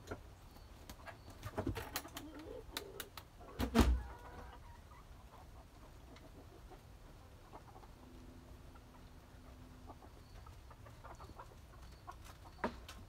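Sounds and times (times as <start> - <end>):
chickens clucking faintly: 0.0 - 13.0.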